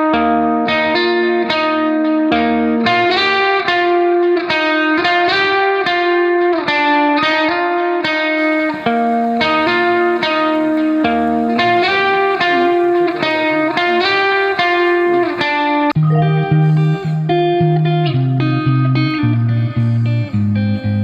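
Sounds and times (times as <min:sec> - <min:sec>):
plucked guitar melody: 0:00.0 - 0:21.0.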